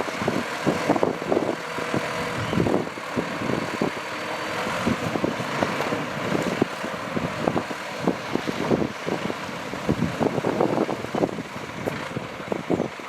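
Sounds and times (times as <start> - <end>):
heavy machinery engine rumble: 0.0 - 13.0.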